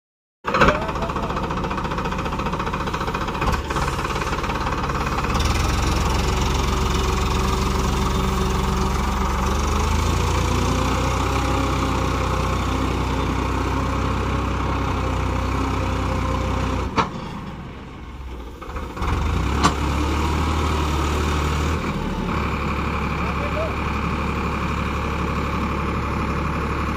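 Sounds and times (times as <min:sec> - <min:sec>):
tractor diesel engine running: 0:00.4 - 0:26.9.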